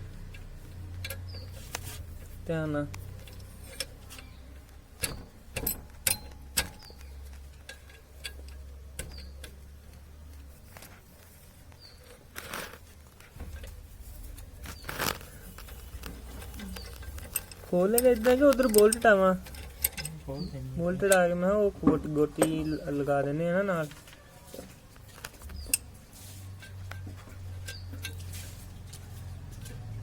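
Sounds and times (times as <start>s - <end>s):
metal scraping: 0.0s - 30.0s
hand tools clicking on metal: 0.1s - 21.4s, 25.0s - 30.0s.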